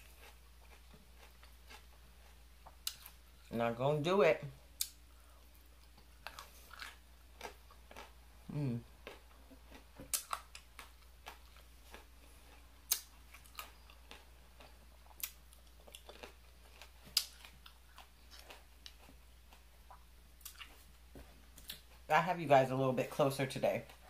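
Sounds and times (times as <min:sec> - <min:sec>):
chewing crunchy salad: 0:00.0 - 0:03.5, 0:04.8 - 0:22.1.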